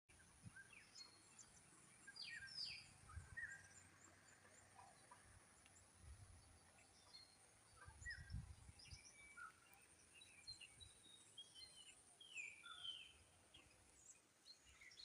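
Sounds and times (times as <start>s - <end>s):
birds chirping and whistling: 0.5s - 5.2s, 6.4s - 15.0s.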